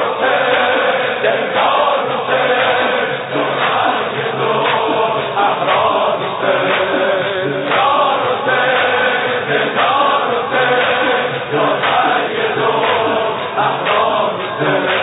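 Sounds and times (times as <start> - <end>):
male congregation chanting: 0.0 - 15.0
steady beat: 0.0 - 15.0.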